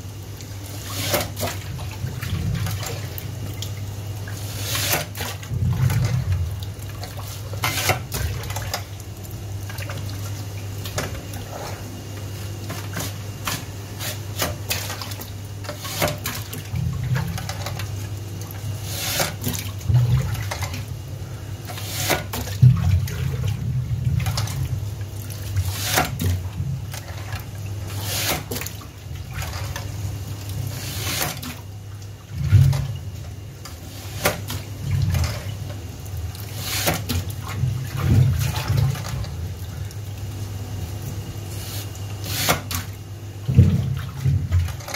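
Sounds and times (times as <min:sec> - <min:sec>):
water running in a sink: 0:00.0 - 0:44.9.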